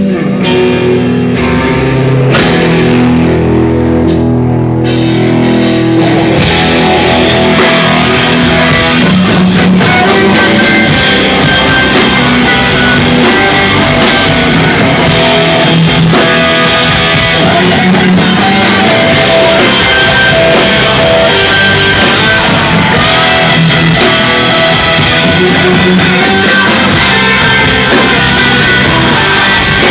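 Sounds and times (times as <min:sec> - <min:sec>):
hardcore band playing live: 0:00.0 - 0:29.9.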